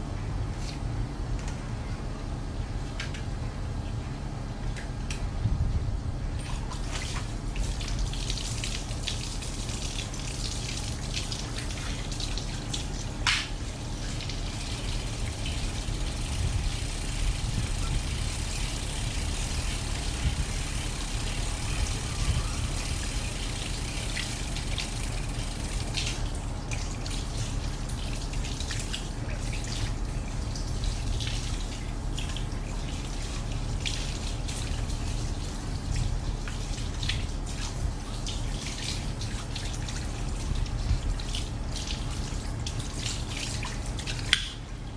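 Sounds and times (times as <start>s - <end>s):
water spraying onto bicycle: 6.4s - 44.5s
water dripping on tiled floor: 7.5s - 44.7s.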